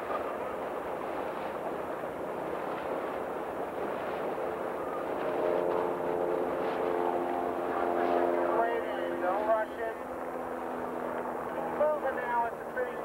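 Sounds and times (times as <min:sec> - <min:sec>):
motor hum: 0:00.0 - 0:13.0
water and wind rushing: 0:00.0 - 0:13.0.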